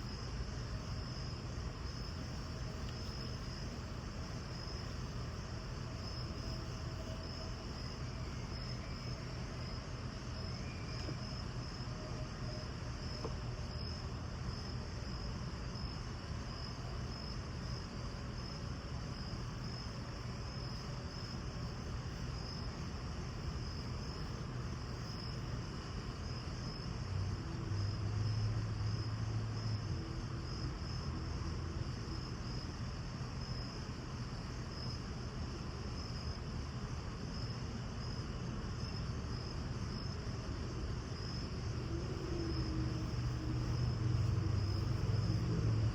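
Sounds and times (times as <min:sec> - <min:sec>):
background hiss: 0:00.0 - 0:45.9
insects chirping: 0:00.0 - 0:45.9.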